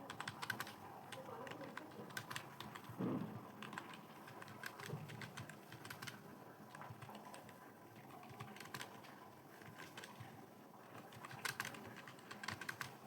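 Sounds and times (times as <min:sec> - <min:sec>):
computer keyboard typing: 0:00.0 - 0:03.0, 0:03.6 - 0:09.0, 0:09.6 - 0:10.3, 0:11.0 - 0:13.0.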